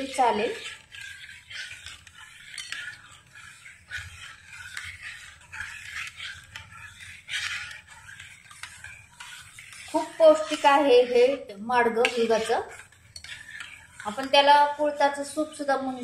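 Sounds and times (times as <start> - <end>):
spatula scraping metal pot: 0.0 - 16.0.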